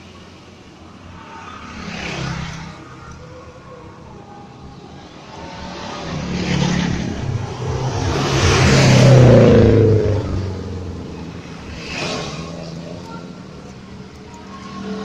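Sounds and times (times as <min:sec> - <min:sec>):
motor vehicle passing by: 0:01.2 - 0:15.0.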